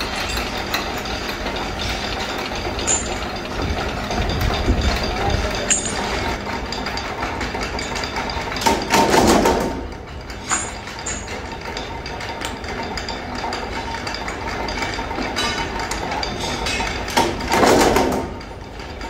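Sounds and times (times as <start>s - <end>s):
mechanical power press running: 0.0s - 19.0s.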